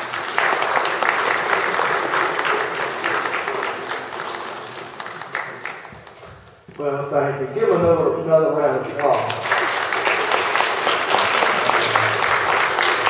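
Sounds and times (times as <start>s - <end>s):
audience applauding: 0.0s - 6.6s, 9.0s - 13.0s.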